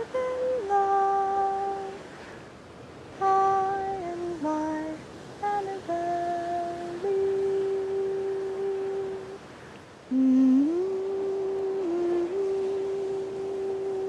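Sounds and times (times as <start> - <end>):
woman humming: 0.0 - 2.1, 3.2 - 9.4, 10.1 - 14.0.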